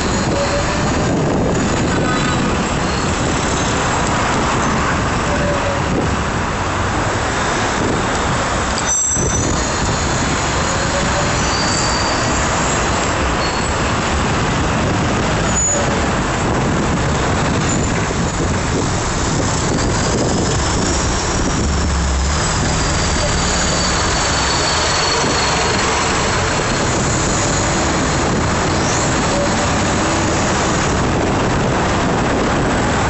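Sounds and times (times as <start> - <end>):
traffic noise: 0.0 - 33.0
wind rush on microphone: 0.0 - 33.0.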